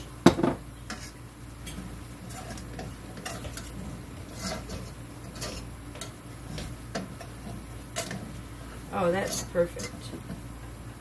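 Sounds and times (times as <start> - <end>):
utensil scraping metal skillet: 0.8 - 10.2.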